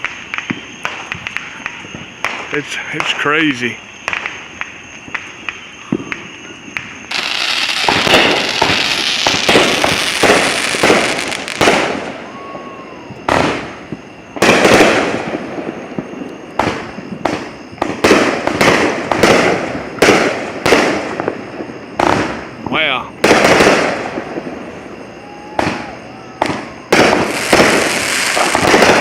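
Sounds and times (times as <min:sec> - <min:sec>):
fireworks bangs: 0:00.0 - 0:29.0
fireworks booms: 0:00.0 - 0:29.0
fireworks popping and crackling: 0:00.0 - 0:29.0.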